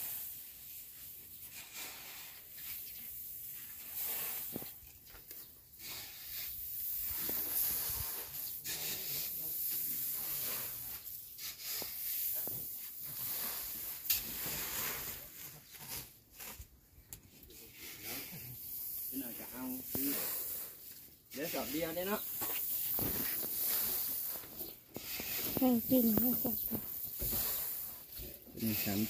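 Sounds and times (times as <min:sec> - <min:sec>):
rice poured into a sack: 0:00.0 - 0:16.7, 0:17.5 - 0:29.0.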